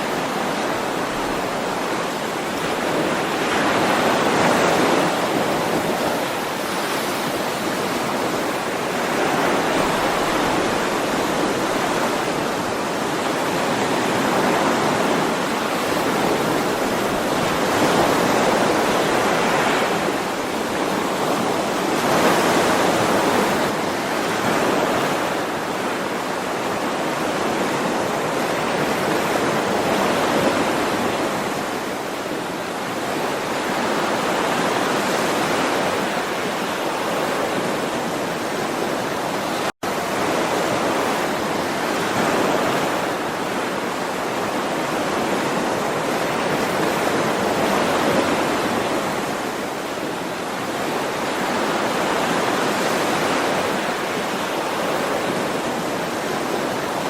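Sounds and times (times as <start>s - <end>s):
ocean waves surf: 0.0s - 57.0s.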